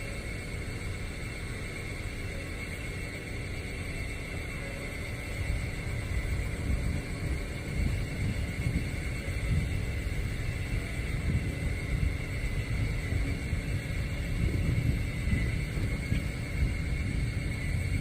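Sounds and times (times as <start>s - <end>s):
high-pitched whine: 0.0s - 18.0s
locomotive engine rumble: 0.0s - 18.0s.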